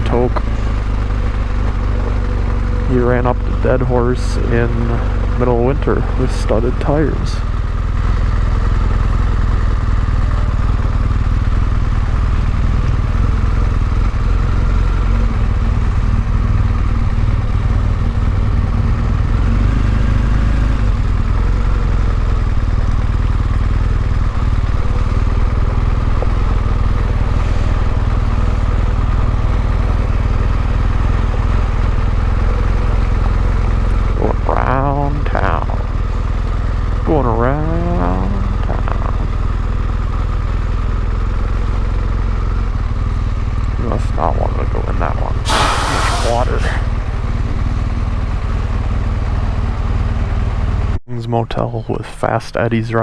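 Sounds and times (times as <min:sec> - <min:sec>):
motorcycle engine running: 0:00.0 - 0:51.0
road noise: 0:00.0 - 0:53.0.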